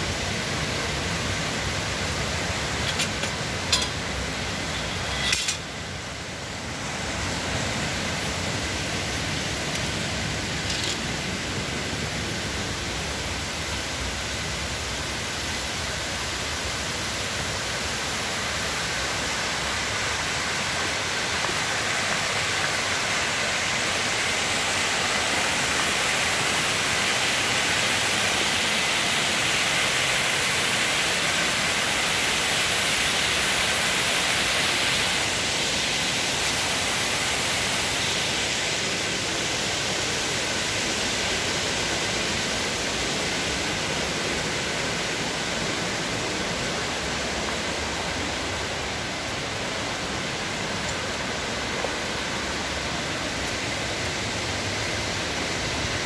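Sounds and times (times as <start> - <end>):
waterfall and rapids rushing: 0.0 - 56.0.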